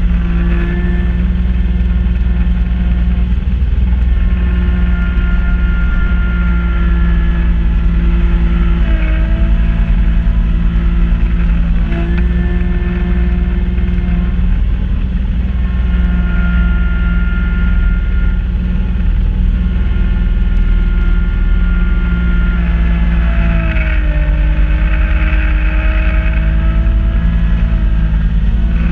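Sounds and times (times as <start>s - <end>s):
snow blower whine: 0.0s - 28.9s
tractor diesel engine running: 0.0s - 28.9s.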